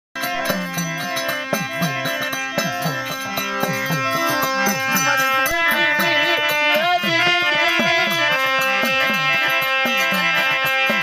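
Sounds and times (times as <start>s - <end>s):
melody: 0.2s - 9.7s.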